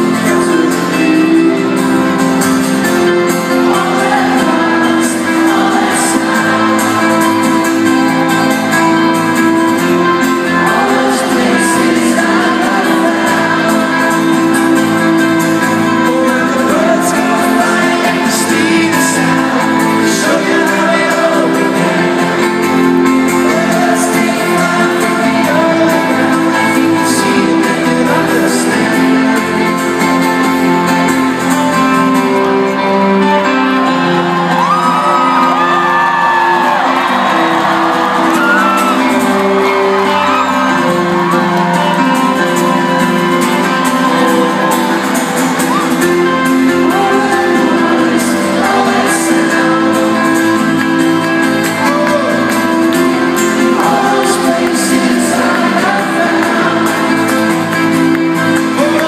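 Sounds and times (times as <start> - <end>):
live pop-rock band playing: 0.0 - 59.0
man singing lead vocals: 0.0 - 59.0.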